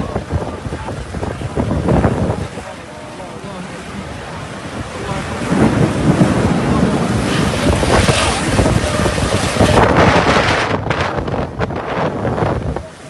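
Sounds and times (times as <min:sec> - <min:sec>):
rainstorm: 0:00.0 - 0:13.0
wind buffeting microphone: 0:00.0 - 0:13.0.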